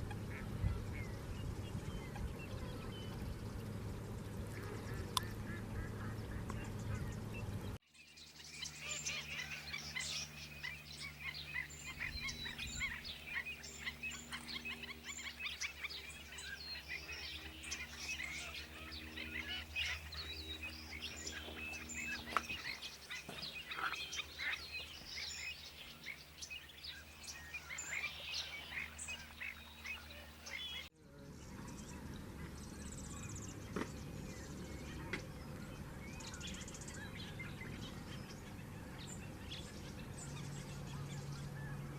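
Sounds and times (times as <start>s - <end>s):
low steady hum: 0.0s - 41.9s
small birds chirping: 0.0s - 41.9s.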